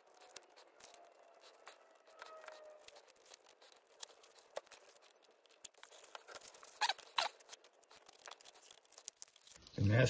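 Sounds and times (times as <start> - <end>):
tape tearing rips: 0.0 - 9.8
tape crackling while peeled: 0.0 - 10.0.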